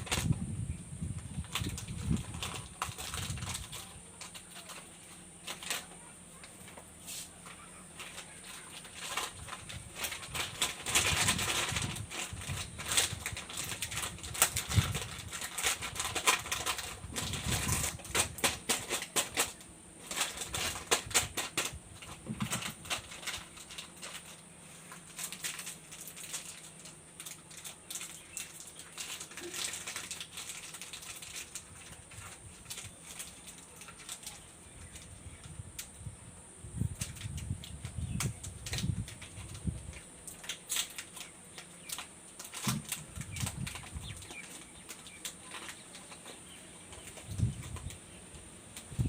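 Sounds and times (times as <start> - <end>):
candy wrappers crinkling: 0.0 - 0.5, 1.1 - 36.0, 36.7 - 48.1.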